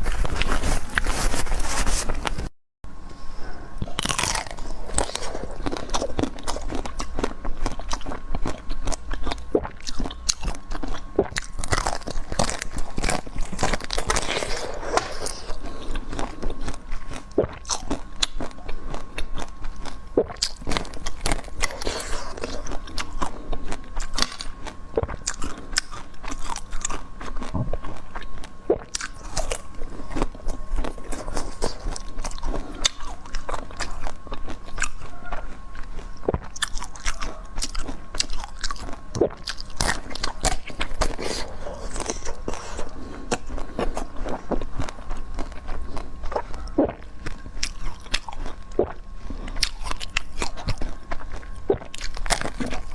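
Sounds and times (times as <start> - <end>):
crunching and chewing crisp food: 0.0 - 2.5, 3.1 - 52.9.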